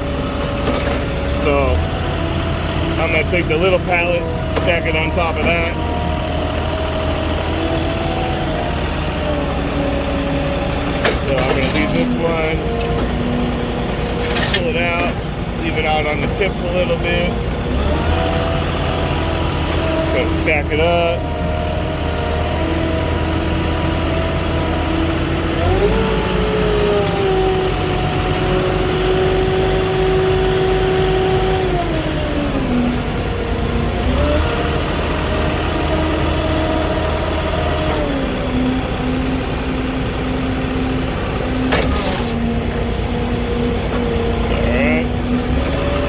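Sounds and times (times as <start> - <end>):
forklift engine revving: 0.0 - 46.0.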